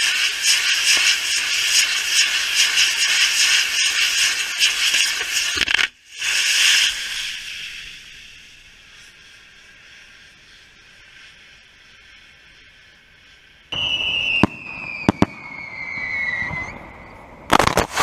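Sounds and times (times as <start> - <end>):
firework rocket motors hissing: 0.0 - 18.0.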